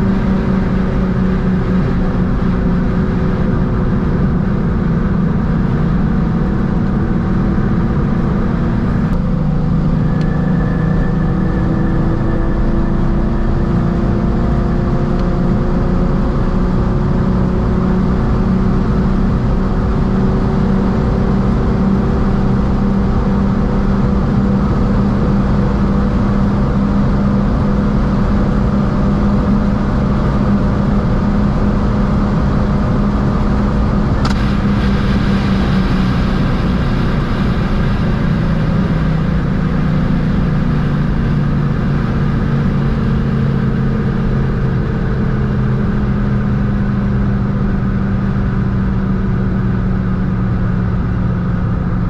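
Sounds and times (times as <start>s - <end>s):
car engine at high revs: 0.0s - 52.0s
wind and road noise: 0.0s - 52.0s.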